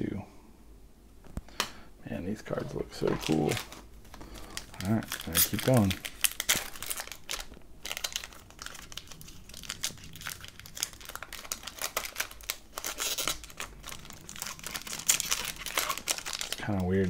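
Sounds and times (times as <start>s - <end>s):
foil wrapper crinkling and tearing: 2.6s - 17.0s.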